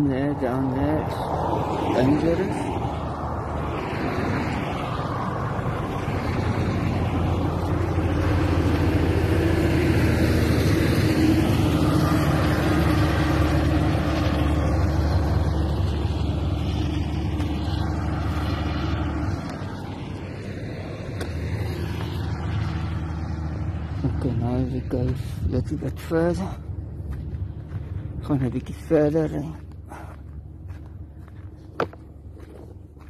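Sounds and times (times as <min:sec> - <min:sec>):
heavy truck engine labouring: 0:00.3 - 0:33.0.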